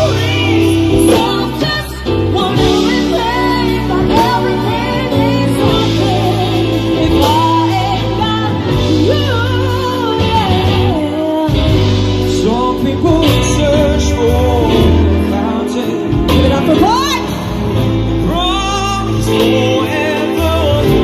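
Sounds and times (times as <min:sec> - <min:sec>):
bass line: 0:00.0 - 0:21.0
drums: 0:00.0 - 0:21.0
electric guitar: 0:00.0 - 0:21.0
man singing: 0:00.0 - 0:21.0
woman singing: 0:00.0 - 0:21.0.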